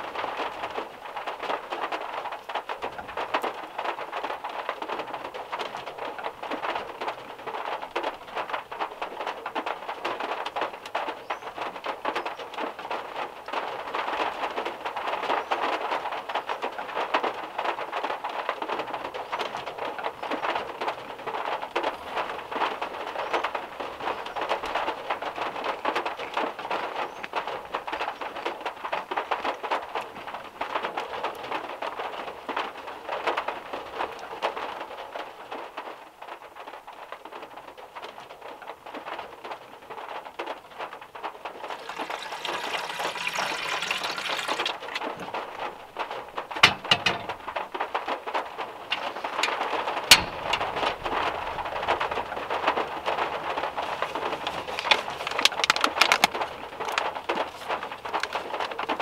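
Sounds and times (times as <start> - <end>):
heavy rain on a metal car roof: 0.0 - 59.0.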